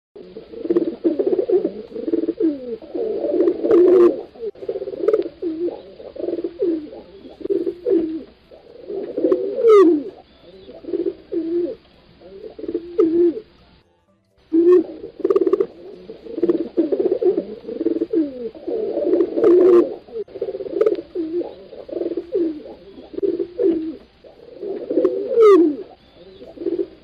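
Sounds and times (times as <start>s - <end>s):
pigeons cooing: 0.2s - 13.6s, 14.5s - 27.0s.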